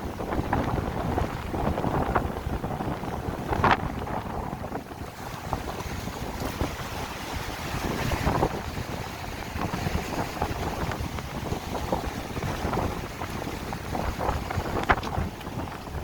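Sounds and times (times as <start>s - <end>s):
sea waves washing on shore: 0.0s - 16.0s
wind buffeting microphone: 0.0s - 16.0s.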